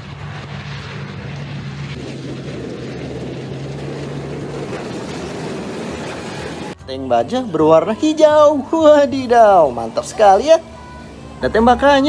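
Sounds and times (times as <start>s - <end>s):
low hum: 0.0s - 12.0s
mechanical drone: 0.0s - 12.0s
rushing noise: 0.0s - 12.0s.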